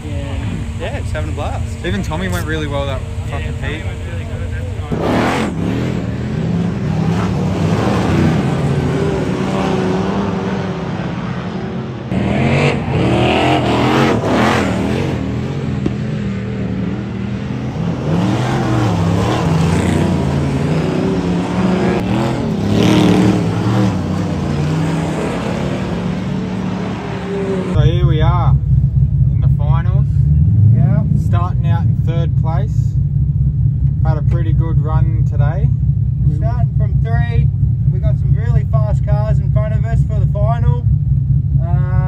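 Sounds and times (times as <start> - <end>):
race car engines revving: 0.0 - 42.0.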